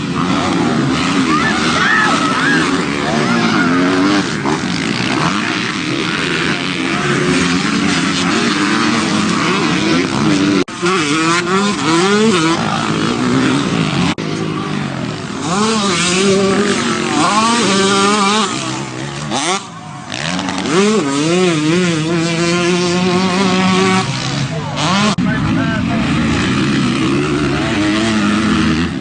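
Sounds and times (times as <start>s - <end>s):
dirt bikes revving: 0.0s - 29.0s.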